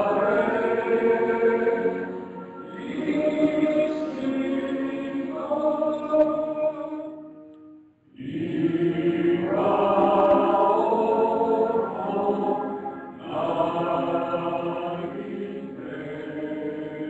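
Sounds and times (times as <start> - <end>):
choir singing held notes: 0.0 - 7.2, 8.2 - 17.0.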